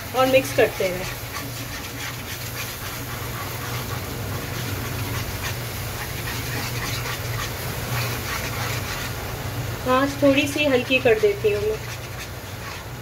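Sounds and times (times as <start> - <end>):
steady low hum: 0.0 - 13.0
whisk scraping and slapping pan: 0.0 - 13.0.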